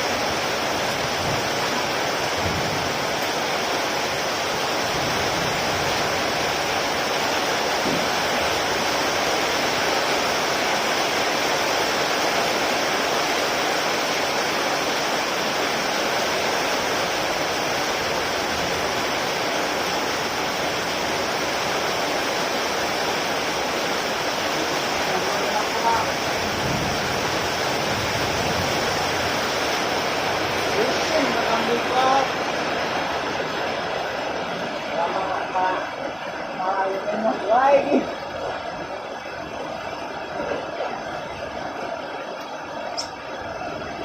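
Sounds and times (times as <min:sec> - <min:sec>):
heavy rain falling: 0:00.0 - 0:44.0.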